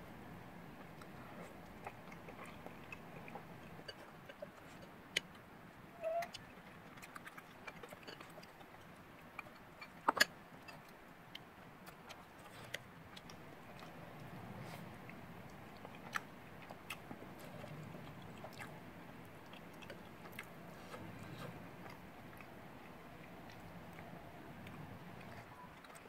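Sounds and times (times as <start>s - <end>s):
faint eating clicks: 0.8s - 26.0s.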